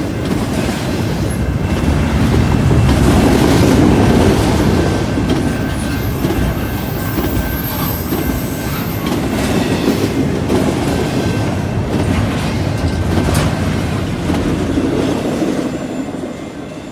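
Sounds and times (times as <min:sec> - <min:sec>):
wheels clacking over rails: 0:00.0 - 0:16.3
freight train rumbling past: 0:00.0 - 0:16.9.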